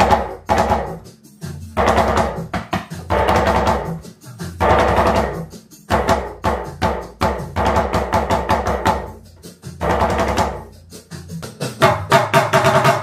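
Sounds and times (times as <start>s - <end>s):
hand drum struck rapidly: 0.0s - 13.0s
recorded rhythm track: 0.0s - 13.0s.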